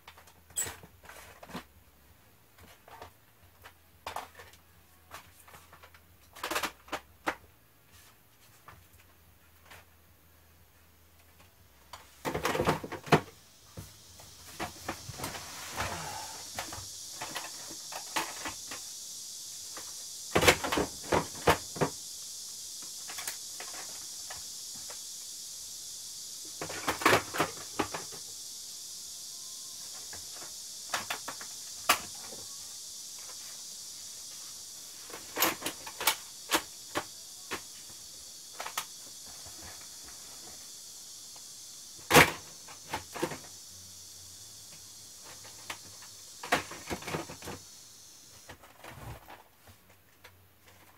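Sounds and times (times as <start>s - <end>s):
steady high hiss: 0.0s - 50.9s.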